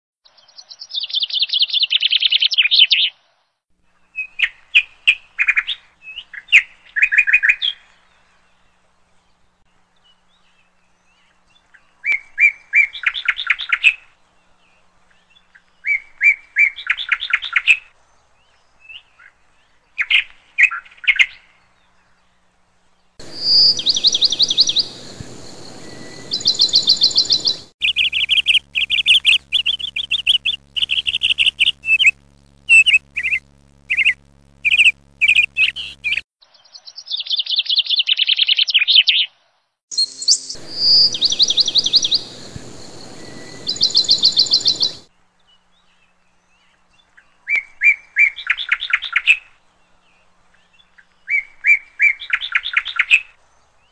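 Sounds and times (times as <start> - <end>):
small birds chirping: 4.0 - 39.3, 39.9 - 53.9.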